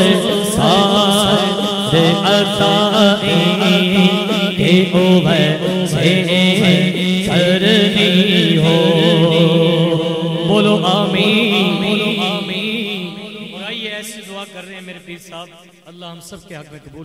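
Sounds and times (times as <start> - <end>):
man chanting into a microphone: 0.0 - 17.0.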